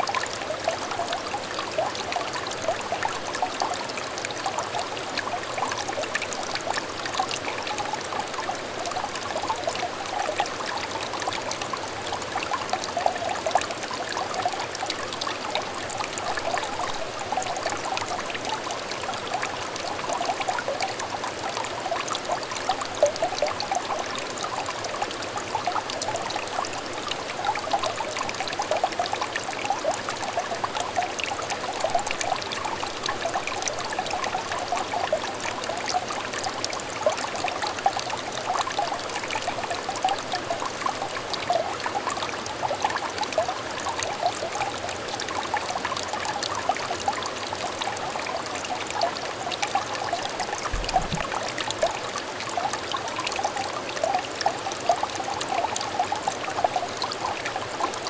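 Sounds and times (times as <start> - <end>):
shallow stream trickling: 0.0 - 58.0.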